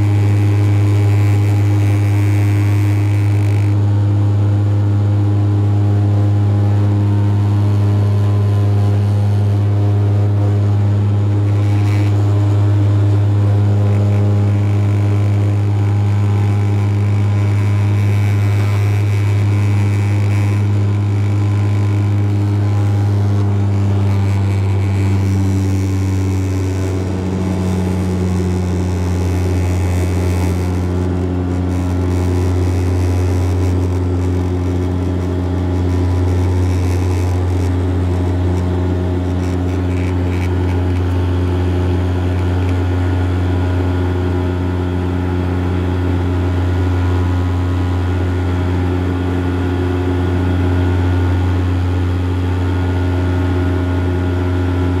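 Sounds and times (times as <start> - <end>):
turboprop drone in cabin: 0.0 - 55.0.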